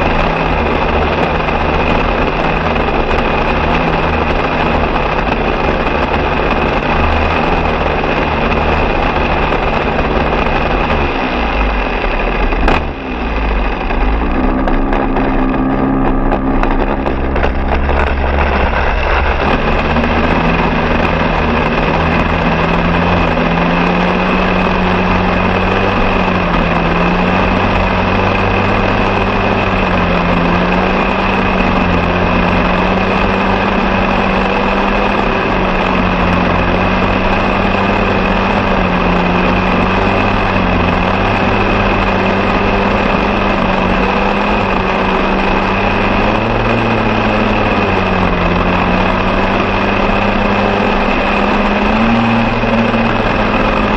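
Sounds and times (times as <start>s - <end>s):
small engine running: 0.0s - 53.9s.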